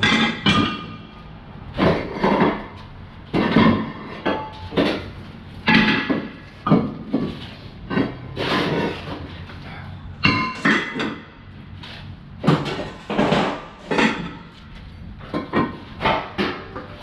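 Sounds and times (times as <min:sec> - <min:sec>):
metal clanks and bangs: 0:00.0 - 0:17.0.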